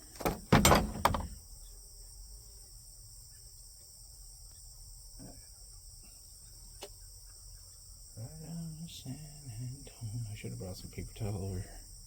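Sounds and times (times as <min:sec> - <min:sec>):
faint low hum: 0:00.0 - 0:12.0
high-pitched insect chorus: 0:00.0 - 0:12.0.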